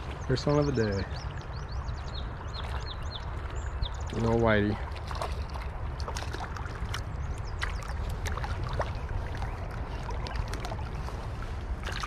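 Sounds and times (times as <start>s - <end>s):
river water flowing: 0.0s - 12.0s
small water splashes and drips: 0.0s - 12.0s.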